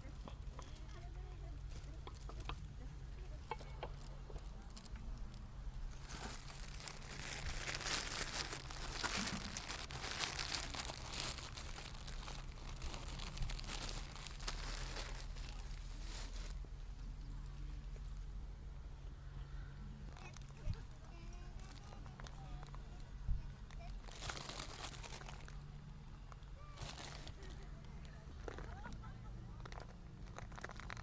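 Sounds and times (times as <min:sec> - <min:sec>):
crinkling and rustling: 0:00.0 - 0:18.3, 0:20.1 - 0:31.0.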